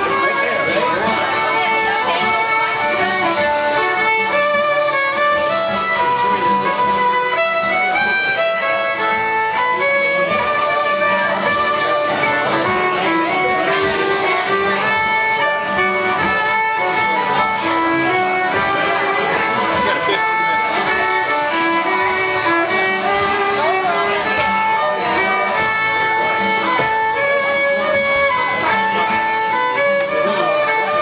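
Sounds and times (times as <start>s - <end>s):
acoustic guitar chords: 0.0s - 31.0s
fiddle melody: 0.0s - 31.0s.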